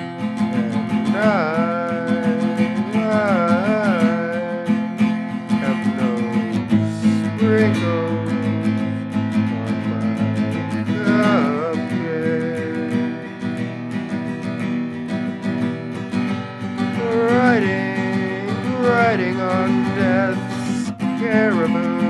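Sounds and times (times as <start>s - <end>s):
acoustic guitar strumming: 0.0s - 22.0s
person singing wordlessly: 0.0s - 22.0s.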